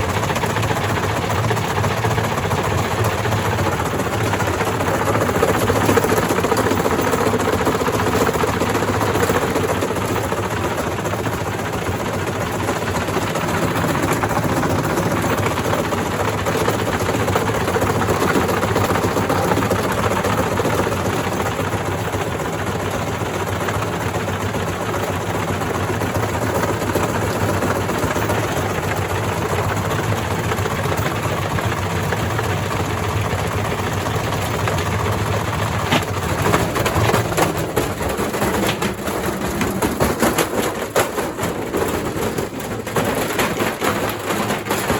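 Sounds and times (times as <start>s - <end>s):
loud knocks and clattering: 0.0s - 44.9s
washer-dryer spinning hum: 0.0s - 44.9s
cabinet rattling: 0.2s - 44.9s.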